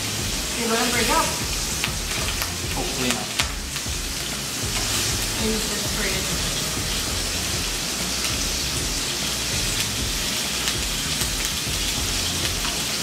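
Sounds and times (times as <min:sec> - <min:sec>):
fish sizzling in a frying pan: 0:00.0 - 0:13.0.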